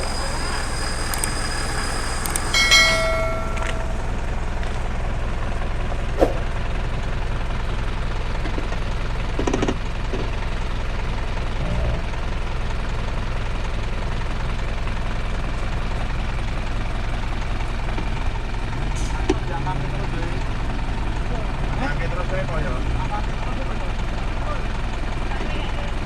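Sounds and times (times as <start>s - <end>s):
off-road vehicle engine idling: 0.0s - 26.0s.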